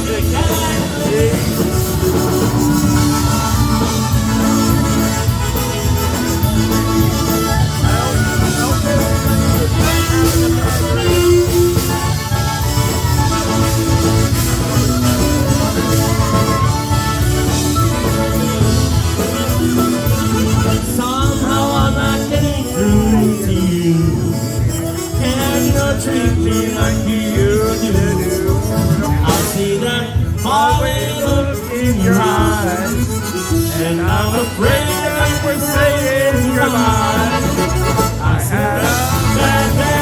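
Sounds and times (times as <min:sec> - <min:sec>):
polka band playing: 0:00.0 - 0:40.0.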